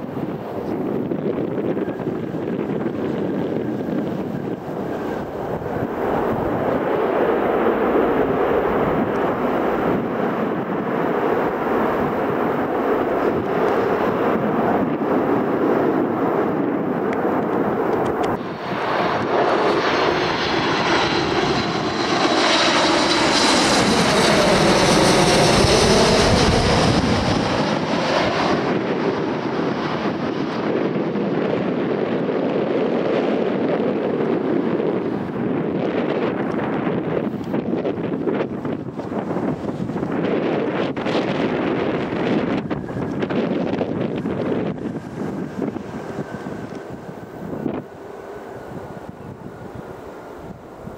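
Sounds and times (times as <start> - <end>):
jet airliner passing low: 0.0 - 50.9
wind buffeting microphone: 0.0 - 50.9.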